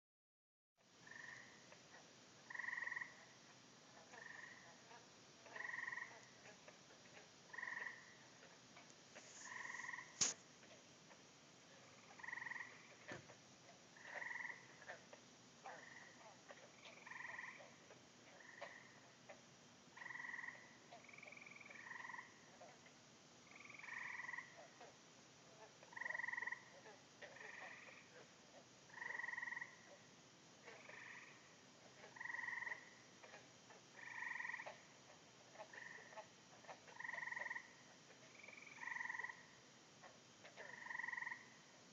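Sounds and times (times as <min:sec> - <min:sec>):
frogs trilling: 0:01.0 - 0:03.4, 0:04.0 - 0:10.3, 0:11.9 - 0:13.2, 0:13.9 - 0:25.0, 0:25.6 - 0:41.8.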